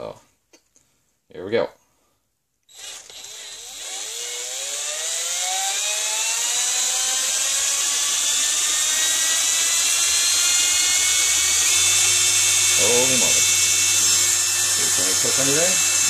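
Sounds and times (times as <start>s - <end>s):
cordless drill whine: 2.7s - 16.0s.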